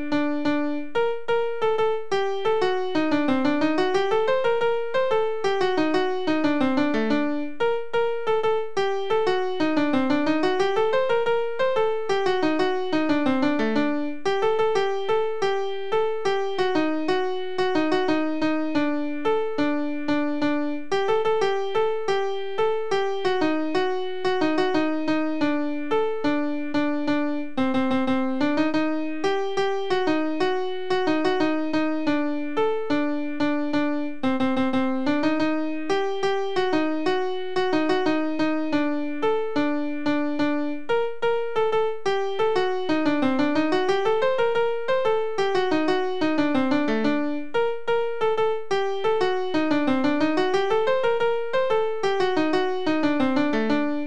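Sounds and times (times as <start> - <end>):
synthesized piano melody: 0.0 - 54.0.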